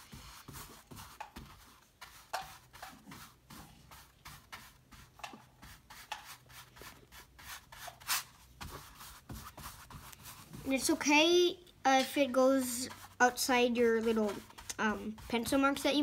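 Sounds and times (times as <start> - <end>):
paintbrush scrubbing canvas: 0.0 - 11.4, 12.2 - 16.0.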